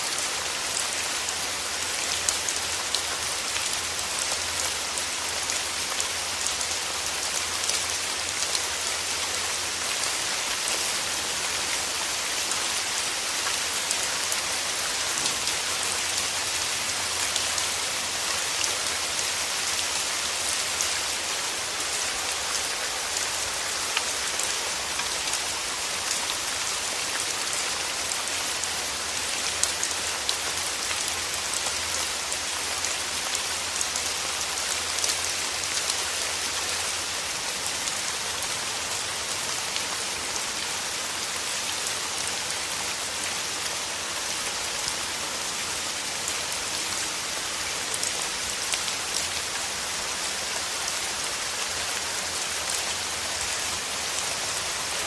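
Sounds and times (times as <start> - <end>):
hiss of falling rain: 0.0 - 55.0.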